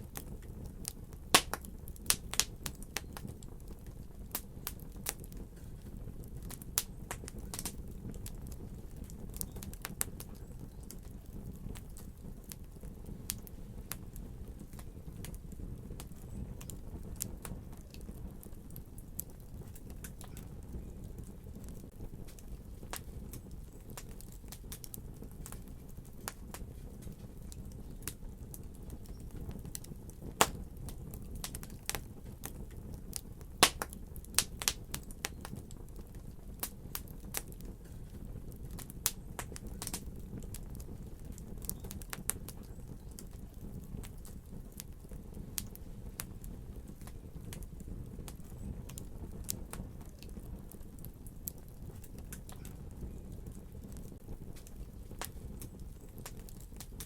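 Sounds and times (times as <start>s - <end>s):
pops and snaps of fire: 0.0s - 57.0s
wood fire crackling: 0.0s - 57.0s.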